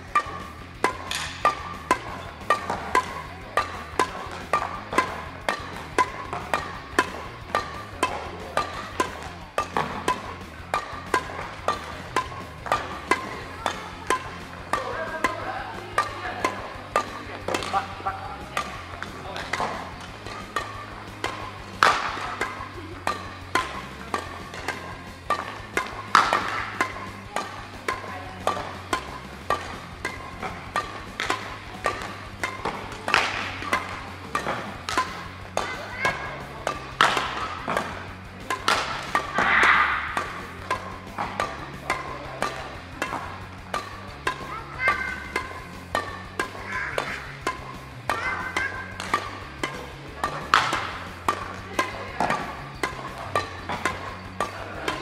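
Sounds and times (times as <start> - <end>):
background music with steady beat: 0.0 - 55.0
rackets hitting shuttlecock: 0.0 - 55.0.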